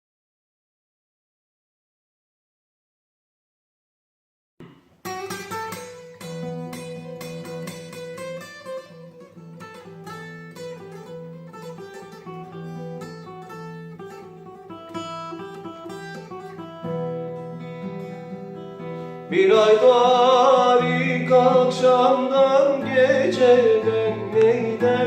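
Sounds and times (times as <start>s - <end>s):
plucked string instrument melody: 4.6s - 25.0s.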